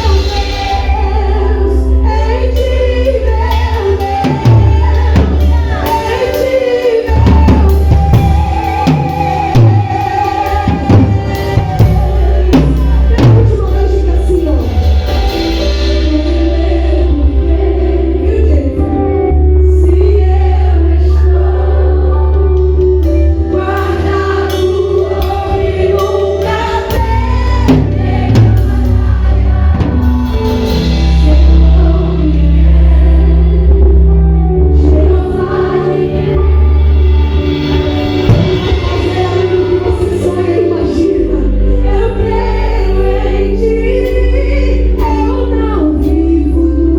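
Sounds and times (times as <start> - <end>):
choral singing: 0.0 - 46.9
heavy sustained bass line: 0.0 - 46.9.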